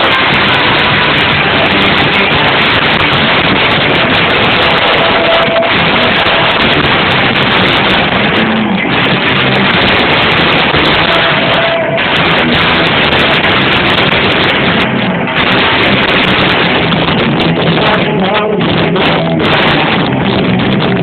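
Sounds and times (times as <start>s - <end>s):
loud electric guitar: 0.0s - 21.0s
rock band playing live: 0.0s - 21.0s.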